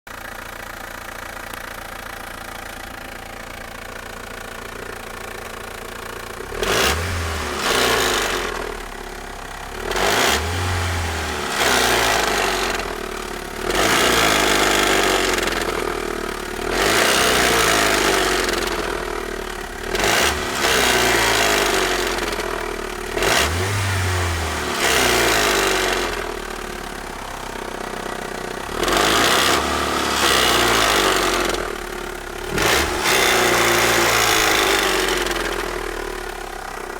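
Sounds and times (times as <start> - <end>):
car engine idling and revving: 0.1 - 36.9.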